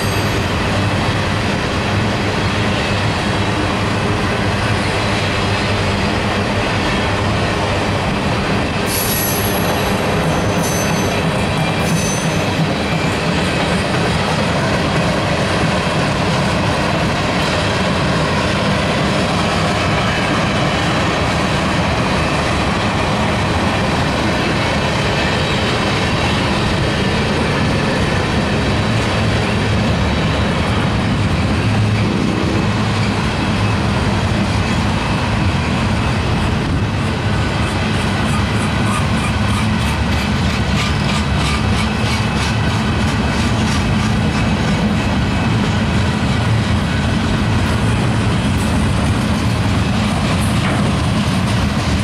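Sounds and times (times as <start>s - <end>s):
steel wheels rumbling on rail: 0.0s - 52.0s.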